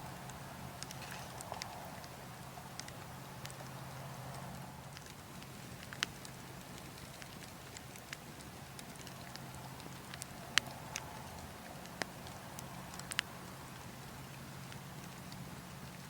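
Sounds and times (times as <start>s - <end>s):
burning logs crackling: 0.0s - 16.0s.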